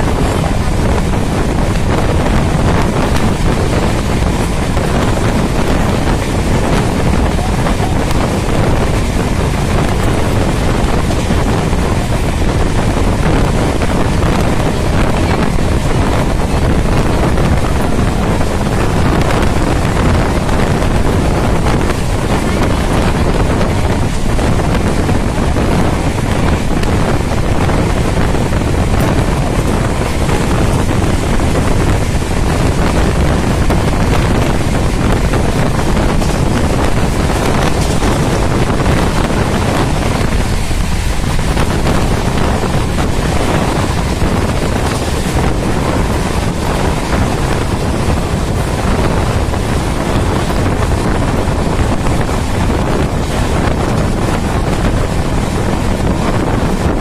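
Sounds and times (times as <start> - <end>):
train wheels on rails: 0.0 - 57.0
wind buffeting microphone: 0.0 - 57.0.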